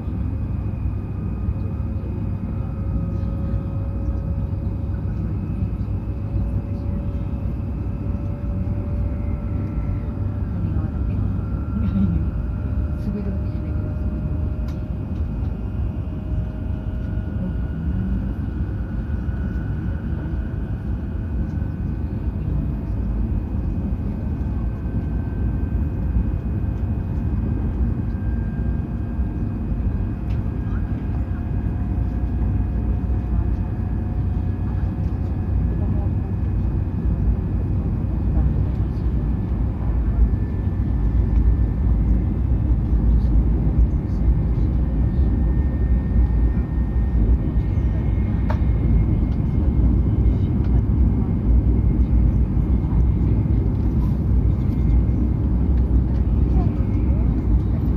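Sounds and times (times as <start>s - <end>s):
train running at speed: 0.0s - 57.9s.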